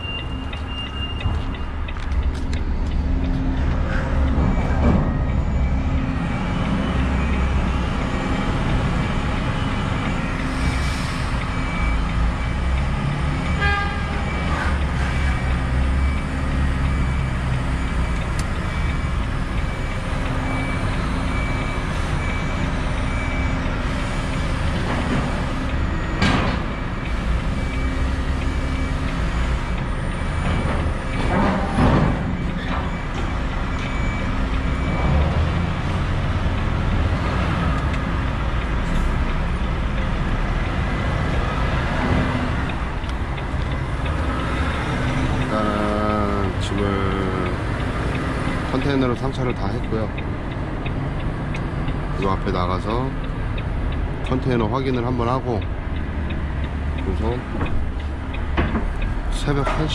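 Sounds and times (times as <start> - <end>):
reversing alarm beeping: 0.0 - 59.7
heavy truck idling: 0.0 - 59.9.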